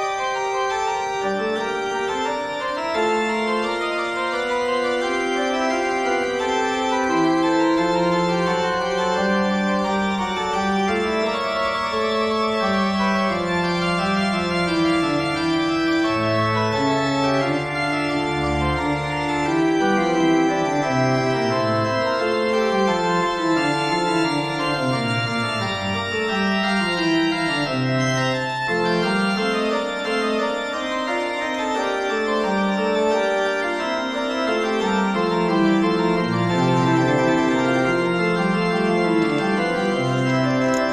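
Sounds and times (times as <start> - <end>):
organ chords: 0.0 - 40.9.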